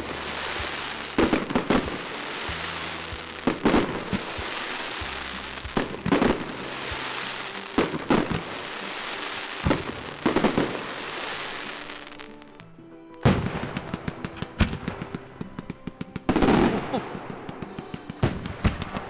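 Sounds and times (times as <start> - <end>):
fireworks banging: 0.0 - 19.0
fireworks crackling hiss: 0.0 - 19.0.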